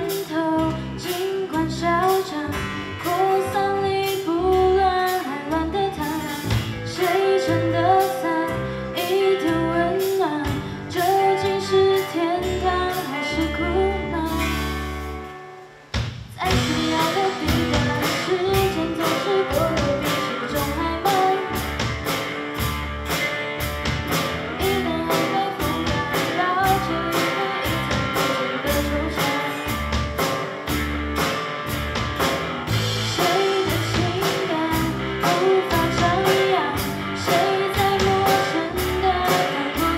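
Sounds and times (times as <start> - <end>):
drums and cymbals: 0.0 - 13.6, 14.3 - 39.9
woman singing: 0.0 - 15.0, 16.4 - 21.7, 24.4 - 30.0, 33.0 - 39.9
electric bass: 0.0 - 39.9
electric guitar: 0.0 - 39.9.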